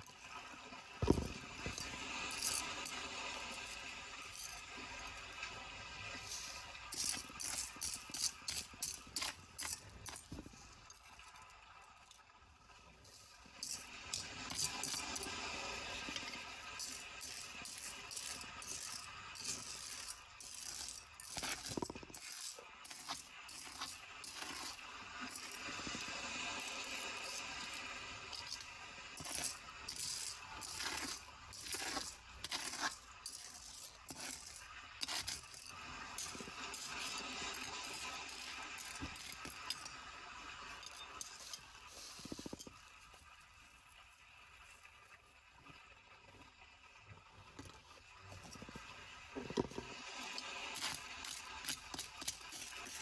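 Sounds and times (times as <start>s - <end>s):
small hard objects rattling: 0.0s - 11.5s, 13.0s - 43.2s, 48.4s - 53.0s.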